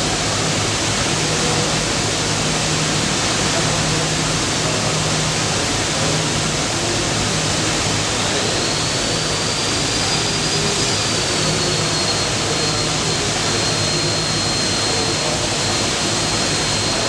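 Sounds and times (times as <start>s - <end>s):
extraction fan running: 0.0s - 17.0s
faint high whine: 0.0s - 17.0s.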